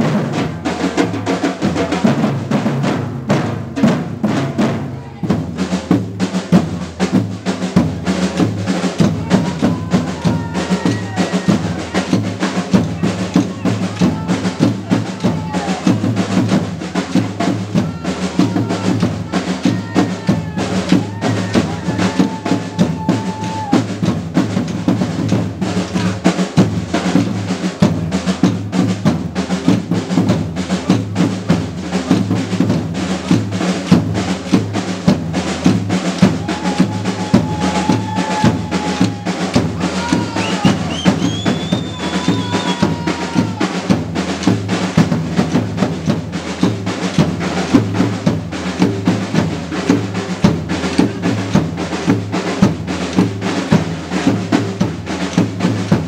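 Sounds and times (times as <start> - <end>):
drum group playing: 0.0 - 56.0.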